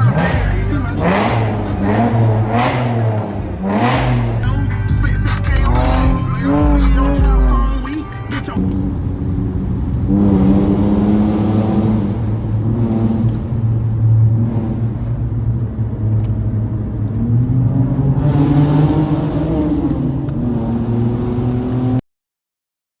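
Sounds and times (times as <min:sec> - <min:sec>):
loud car engine accelerating: 0:00.0 - 0:22.0.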